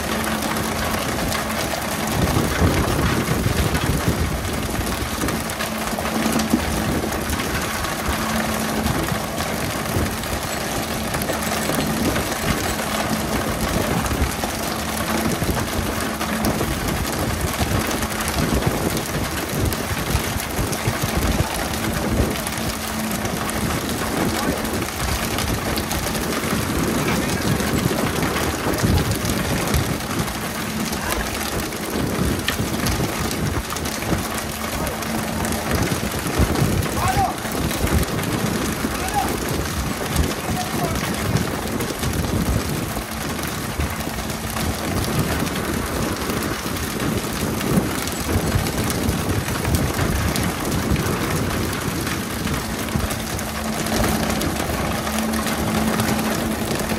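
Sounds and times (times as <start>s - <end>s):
boat engine hum: 0.0s - 56.9s.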